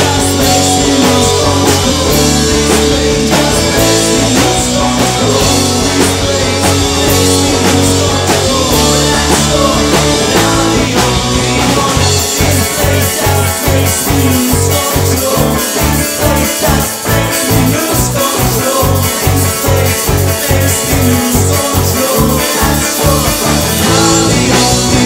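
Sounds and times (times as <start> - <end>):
bass guitar: 0.0 - 25.0
drum kit: 0.0 - 25.0
electric guitar: 0.0 - 25.0.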